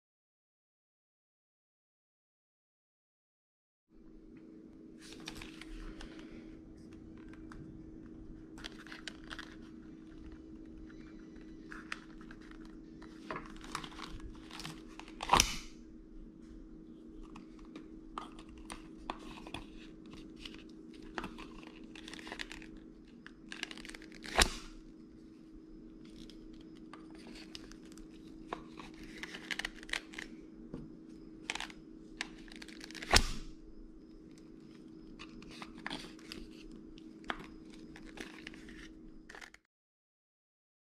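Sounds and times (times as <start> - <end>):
low hum: 4.0 - 39.4.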